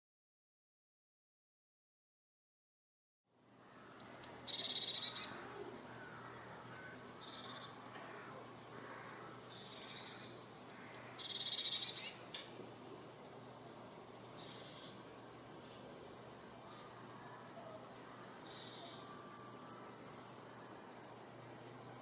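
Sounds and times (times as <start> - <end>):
faint outdoor hiss: 3.3 - 22.0
songbird singing: 3.6 - 22.0.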